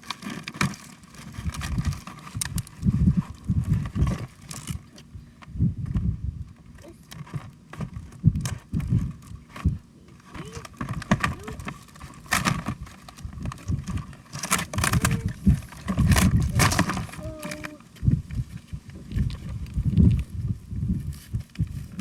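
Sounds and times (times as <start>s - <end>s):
plastic toy packaging handled: 0.0s - 5.1s, 6.6s - 20.4s.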